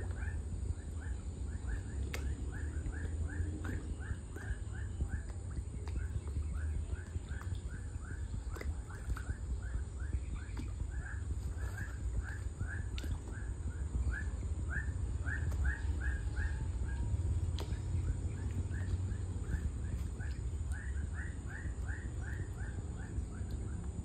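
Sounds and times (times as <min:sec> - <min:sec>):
low rumble: 0:00.0 - 0:24.0.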